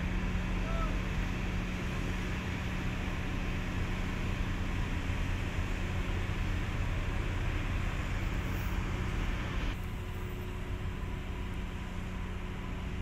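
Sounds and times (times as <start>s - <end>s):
ship diesel engines droning: 0.0s - 13.0s.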